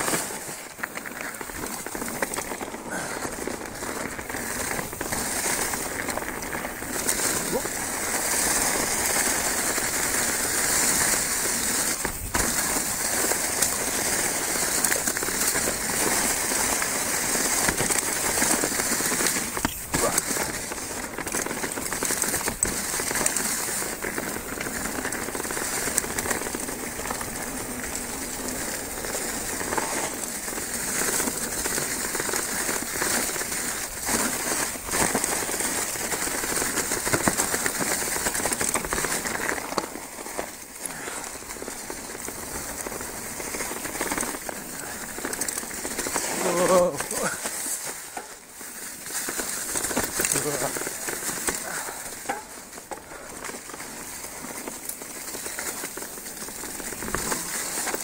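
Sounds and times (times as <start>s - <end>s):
bike tyres crackling over dry leaves: 0.0s - 58.0s.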